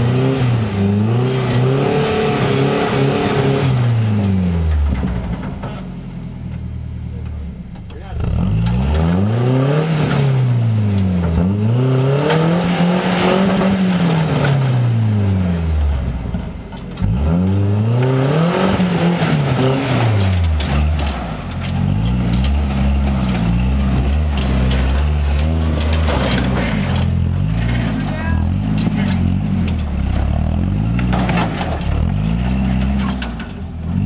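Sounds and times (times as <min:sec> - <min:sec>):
truck engine revving: 0:00.0 - 0:05.9, 0:07.9 - 0:34.0.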